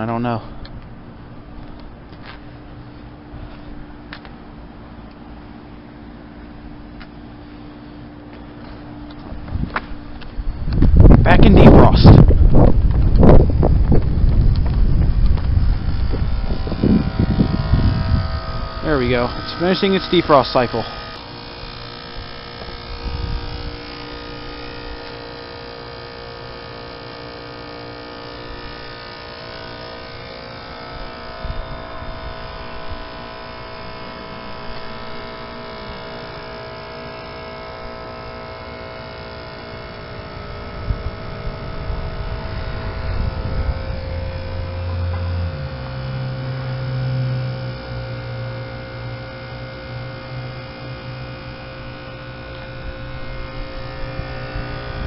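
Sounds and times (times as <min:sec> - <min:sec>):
deeper hum rising in pitch: 0:00.0 - 0:55.0
heat pump compressor hum: 0:00.0 - 0:55.0.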